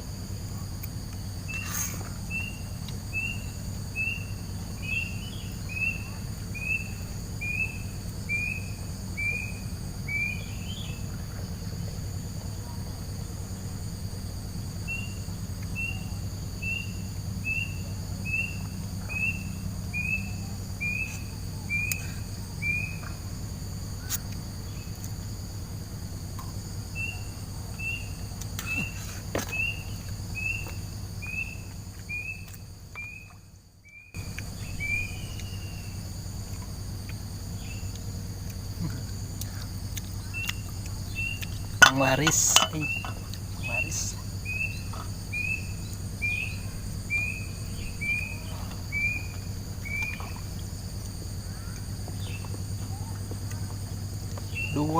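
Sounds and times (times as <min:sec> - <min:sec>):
high insect drone: 0:00.0 - 0:54.9.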